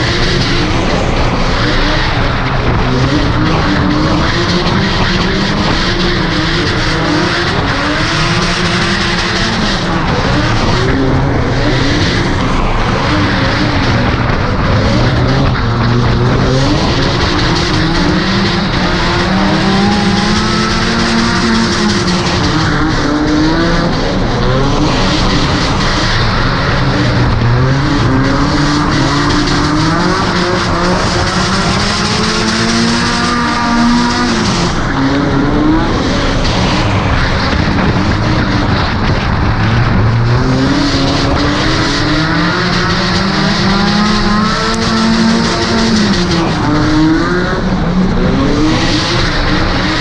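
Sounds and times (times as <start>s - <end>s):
car engine revving: 0.0s - 50.0s
tire and road noise: 0.0s - 50.0s.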